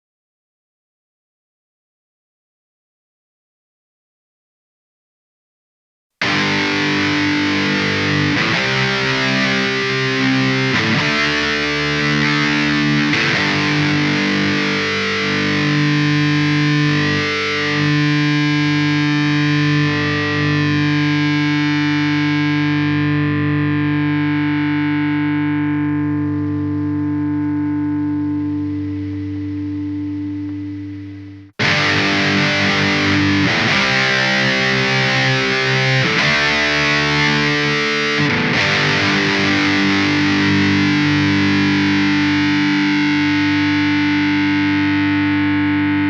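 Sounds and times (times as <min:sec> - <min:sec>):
distorted electric guitar chords: 0:06.2 - 0:46.0.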